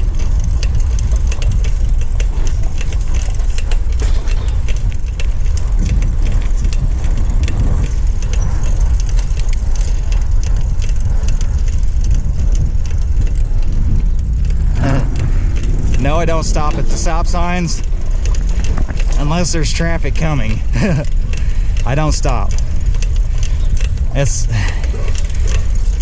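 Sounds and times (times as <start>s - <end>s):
light rattles and clicks: 0.0s - 26.0s
wind buffeting microphone: 0.0s - 26.0s.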